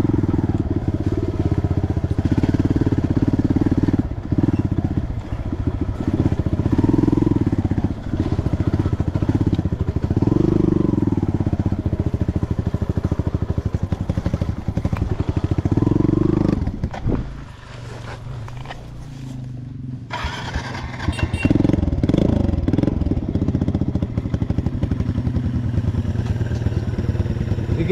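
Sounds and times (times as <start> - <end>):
dirt bike engine revving: 0.0 - 19.5, 20.1 - 24.9.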